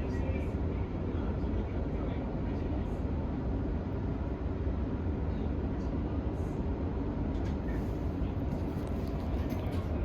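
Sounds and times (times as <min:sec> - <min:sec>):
train car low rumble: 0:00.0 - 0:10.0.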